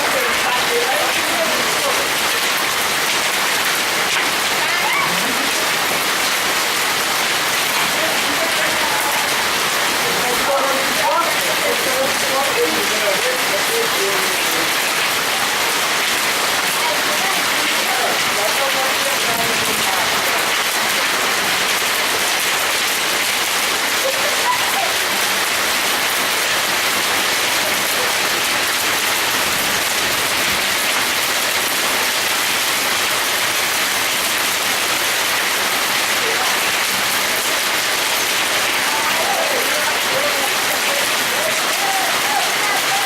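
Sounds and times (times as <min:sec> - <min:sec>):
hail and heavy rain clattering: 0:00.0 - 0:43.0.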